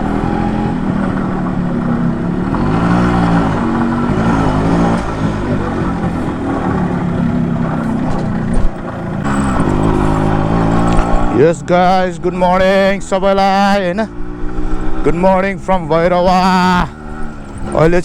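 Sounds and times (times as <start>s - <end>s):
two-stroke motorcycle engine running: 0.0s - 18.0s
wind and road noise: 0.0s - 18.0s.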